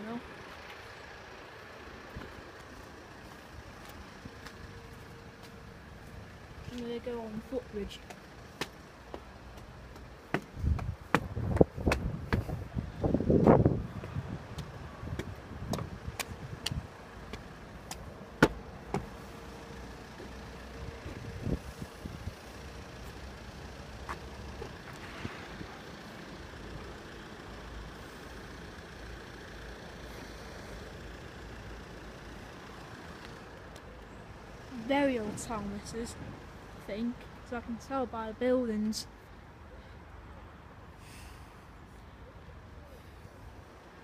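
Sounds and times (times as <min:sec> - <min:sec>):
steady traffic hum: 0:00.0 - 0:44.0.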